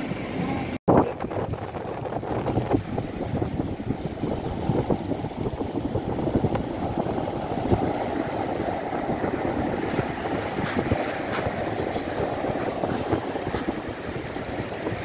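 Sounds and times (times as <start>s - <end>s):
wind buffeting microphone: 0.9s - 15.0s
waves breaking on beach: 1.0s - 15.0s.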